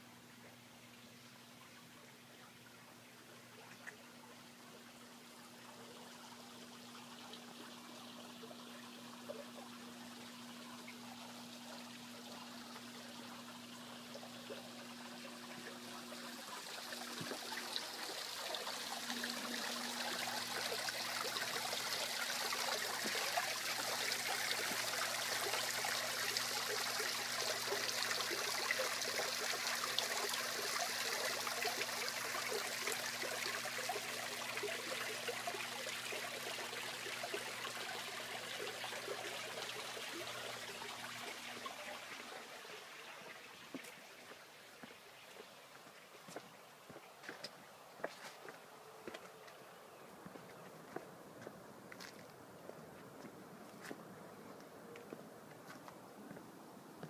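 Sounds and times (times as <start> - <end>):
water trickling over rocks: 0.4 - 57.0.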